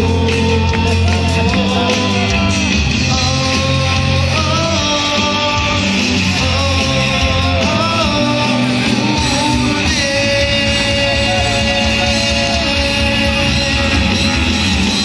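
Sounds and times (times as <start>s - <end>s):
live rock band playing loud: 0.0s - 15.0s
person singing: 0.0s - 15.0s.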